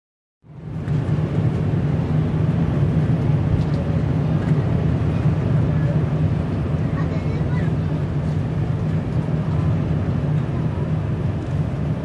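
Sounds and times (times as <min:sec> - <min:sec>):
car road and engine noise: 0:00.4 - 0:12.0.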